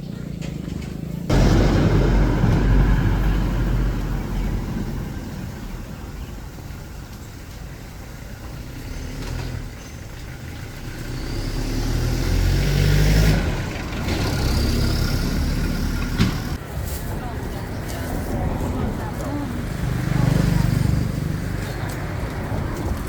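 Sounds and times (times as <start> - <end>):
low traffic rumble: 0.0 - 23.0
vehicle passing close by: 0.9 - 23.0.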